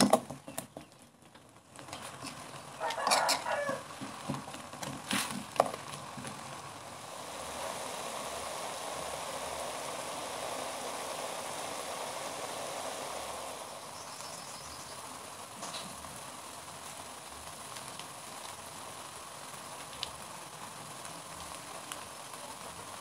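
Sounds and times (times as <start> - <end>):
noodles and egg sizzling: 0.0 - 23.0.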